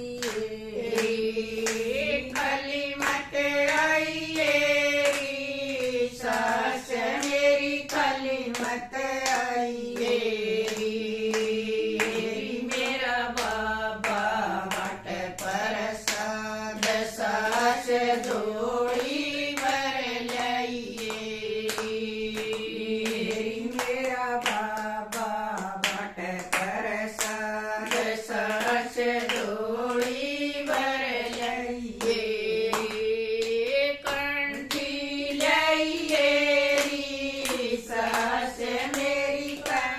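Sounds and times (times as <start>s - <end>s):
hand claps: 0.0s - 39.9s
women singing together: 0.0s - 39.9s.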